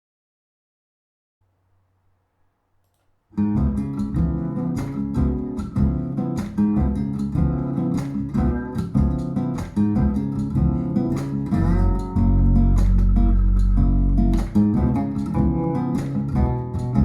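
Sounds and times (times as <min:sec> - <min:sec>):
strummed guitar music with bass: 0:03.4 - 0:17.0.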